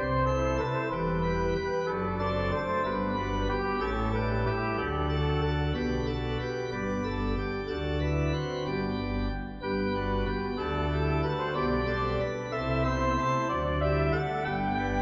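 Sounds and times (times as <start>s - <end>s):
pipe organ chords: 0.0s - 15.0s.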